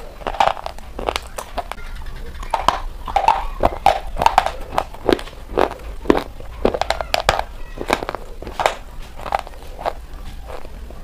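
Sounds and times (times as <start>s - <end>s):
chewing crunchy chalk: 0.0s - 10.8s.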